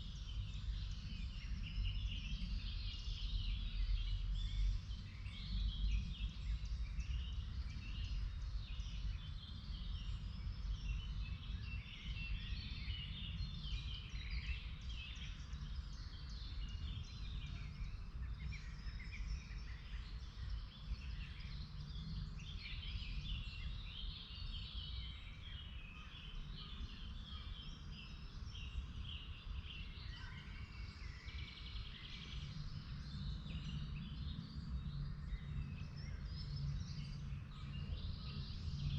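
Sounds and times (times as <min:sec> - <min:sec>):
low steady rumble: 0:00.0 - 0:38.9
songbirds chirping and singing: 0:00.0 - 0:38.9.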